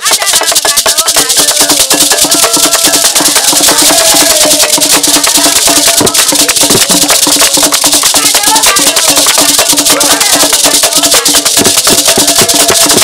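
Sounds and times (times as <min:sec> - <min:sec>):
beaded gourd rattles shaking: 0:00.0 - 0:13.0
sticks beating skin drum: 0:00.0 - 0:13.0.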